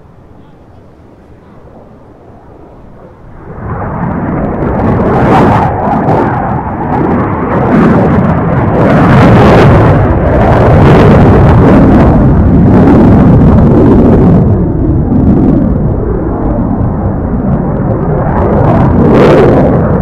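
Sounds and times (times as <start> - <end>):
jet engines roaring with crackle: 0.0 - 20.0.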